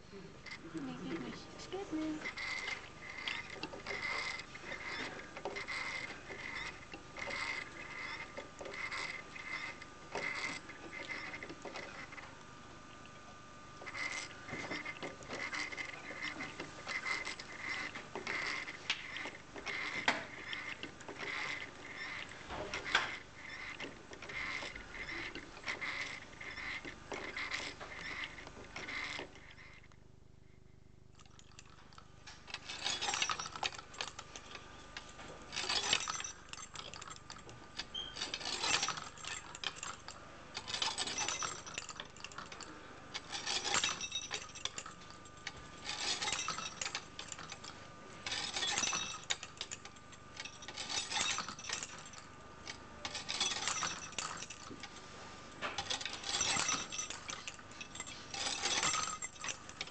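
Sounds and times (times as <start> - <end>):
metal parts clinking and jingling: 2.3 - 12.1, 13.9 - 29.8, 31.2 - 55.0, 55.6 - 59.9.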